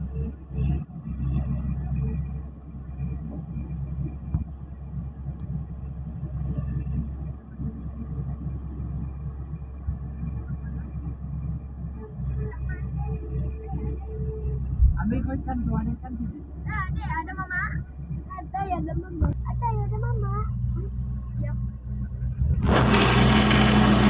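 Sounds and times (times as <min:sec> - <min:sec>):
tractor engine rumbling: 0:00.0 - 0:24.0.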